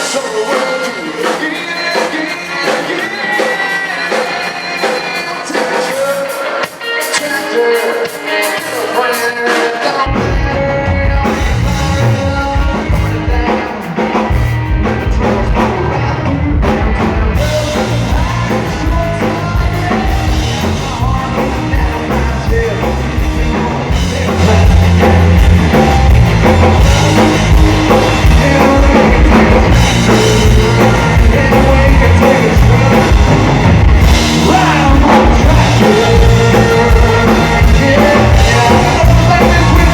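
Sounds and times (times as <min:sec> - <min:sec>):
country-rock band playing: 0:00.0 - 0:39.9
man singing: 0:00.0 - 0:39.9.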